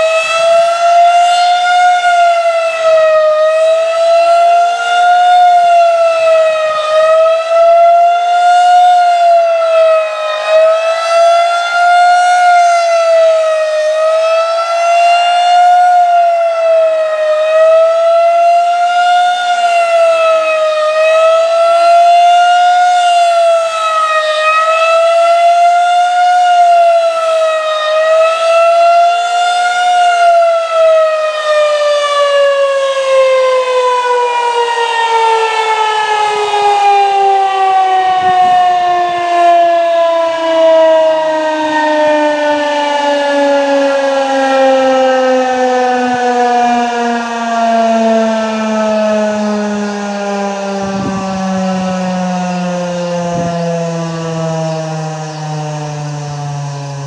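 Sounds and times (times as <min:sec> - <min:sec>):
rotating siren wailing: 0:00.0 - 0:57.0.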